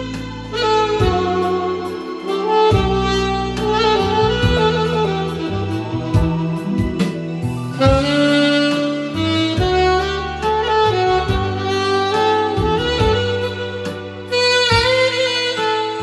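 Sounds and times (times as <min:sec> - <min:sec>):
alto saxophone melody: 0:00.0 - 0:16.0
backing track with bass and drums: 0:00.0 - 0:16.0.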